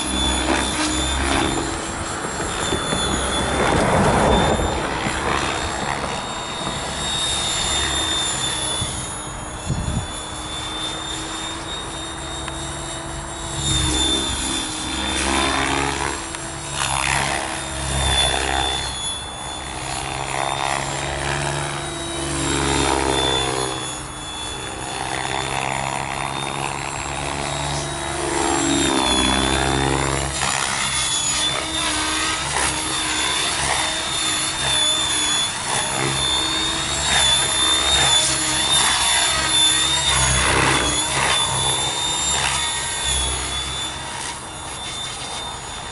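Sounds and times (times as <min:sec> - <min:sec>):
helicopter rotor noise: 0:00.0 - 0:45.9
rc helicopter motor whine: 0:00.0 - 0:45.9.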